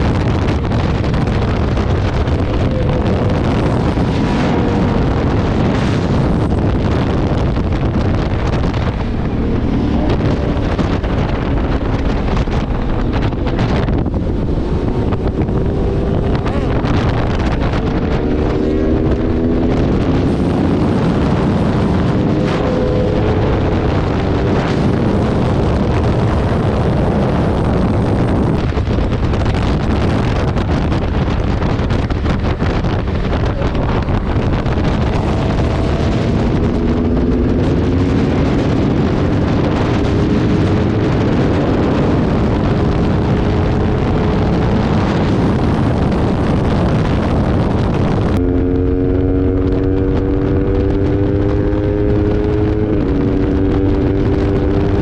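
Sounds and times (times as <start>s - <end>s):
motorcycle engine accelerating: 0.0s - 55.0s
wind noise on microphone: 0.0s - 55.0s.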